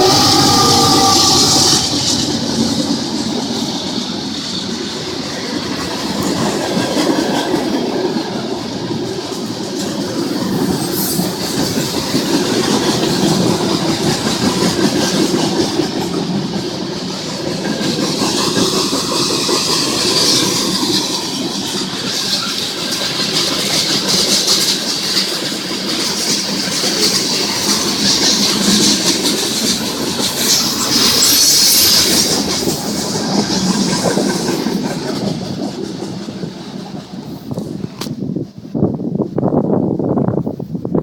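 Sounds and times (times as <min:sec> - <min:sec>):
train wheels clattering on rails: 0:00.0 - 0:38.4.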